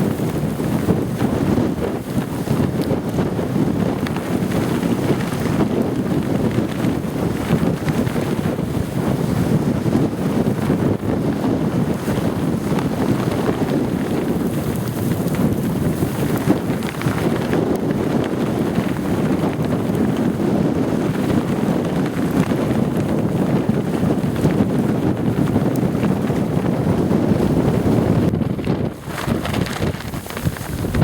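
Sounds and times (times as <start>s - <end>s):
nylon pants flapping: 0.0s - 31.0s
wind buffeting microphone: 0.0s - 31.0s.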